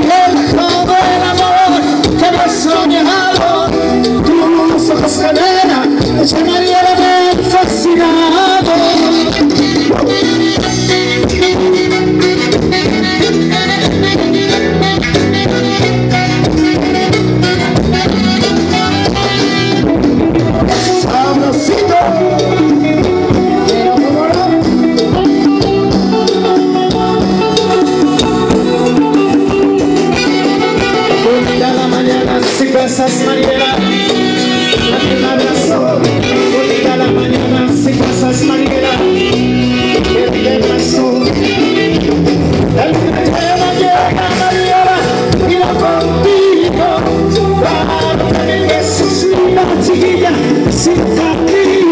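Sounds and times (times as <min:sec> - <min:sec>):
drums: 0:00.0 - 0:51.9
electric guitar: 0:00.0 - 0:51.9
keyboard: 0:00.0 - 0:51.9
saxophones: 0:00.0 - 0:51.9.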